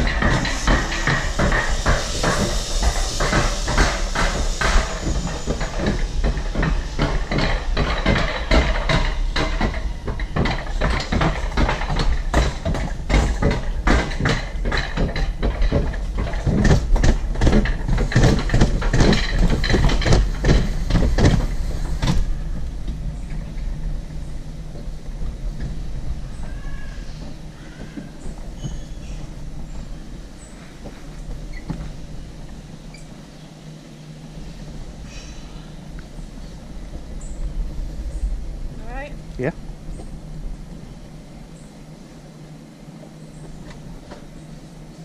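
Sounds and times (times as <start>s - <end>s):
sled clacking and rattling on rails: 0.0s - 45.0s
sled rumbling on track: 0.0s - 45.0s.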